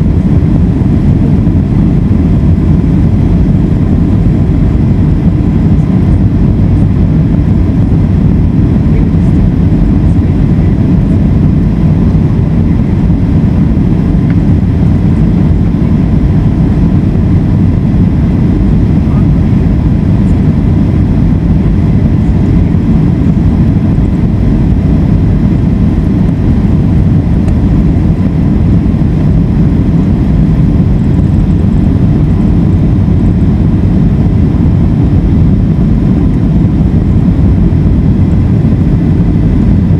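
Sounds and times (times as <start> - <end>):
airliner cabin rumble: 0.0 - 39.9
faint steady whine: 0.0 - 39.9.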